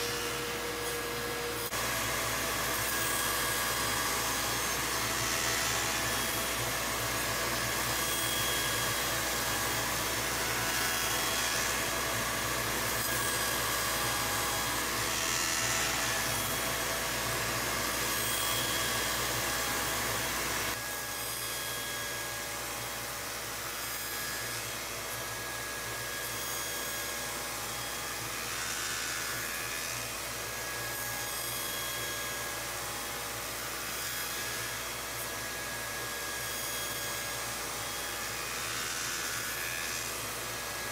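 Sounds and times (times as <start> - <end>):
circular saw cutting wood: 0.0 - 40.9.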